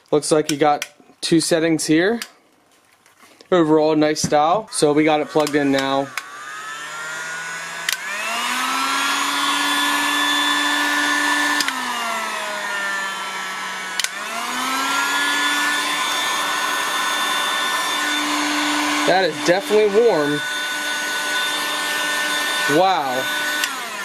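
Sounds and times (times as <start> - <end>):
heat gun fan whirring: 3.8 - 24.0.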